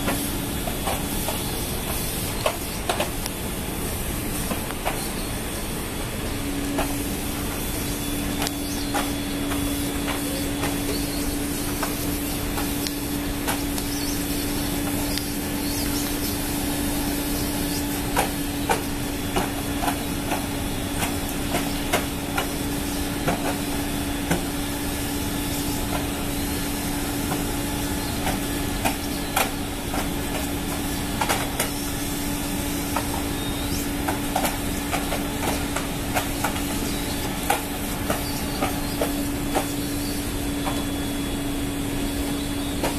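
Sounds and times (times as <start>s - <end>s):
machinery hum: 0.0s - 42.9s.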